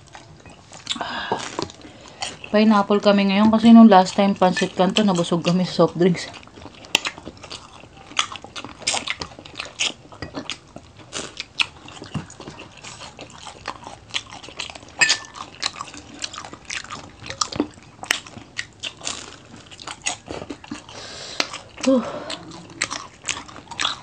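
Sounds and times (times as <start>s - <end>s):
people crunching fried food: 0.0s - 24.0s.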